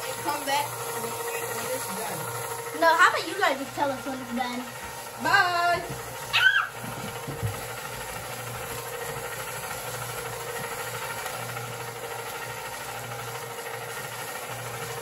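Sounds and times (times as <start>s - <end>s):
ice cream maker motor humming: 0.0s - 15.0s.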